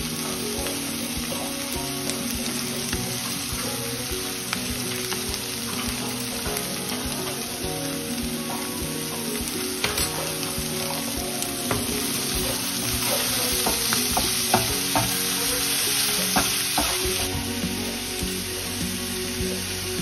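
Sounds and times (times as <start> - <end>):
vegetables sizzling in frying pan: 0.0 - 20.0.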